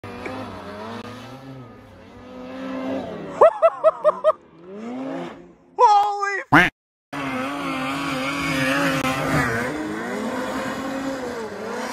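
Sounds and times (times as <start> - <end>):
snowmobile engine revving: 0.0 - 5.7, 6.5 - 11.9.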